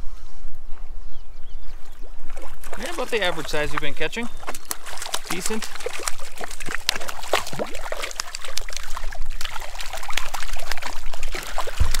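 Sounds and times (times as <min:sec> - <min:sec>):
fish splashing at surface: 0:02.3 - 0:12.0.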